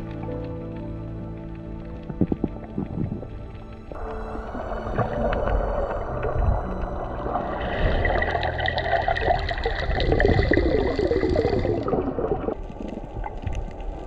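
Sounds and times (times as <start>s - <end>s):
underwater bubbling and gurgling: 0.0s - 14.0s.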